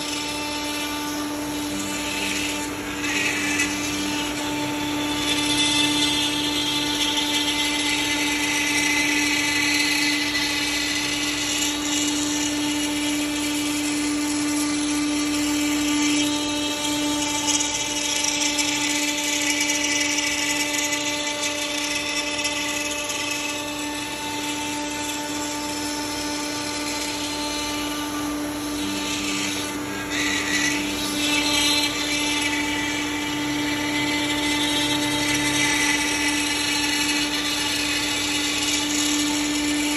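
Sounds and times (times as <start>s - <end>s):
bit cutting wood: 0.0s - 39.9s
router spindle whine: 0.0s - 39.9s.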